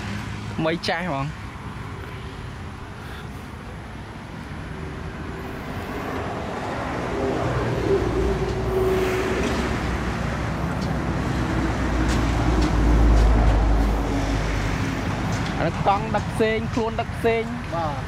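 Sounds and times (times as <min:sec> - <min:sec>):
road traffic noise: 0:00.0 - 0:18.0
vehicle engine rumbling: 0:00.0 - 0:18.0.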